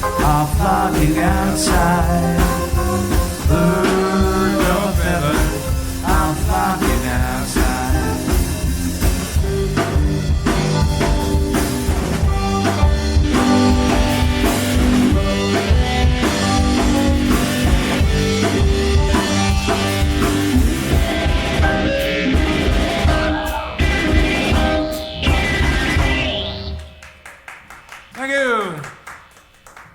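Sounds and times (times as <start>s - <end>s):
live rock band playing: 0.0s - 28.2s.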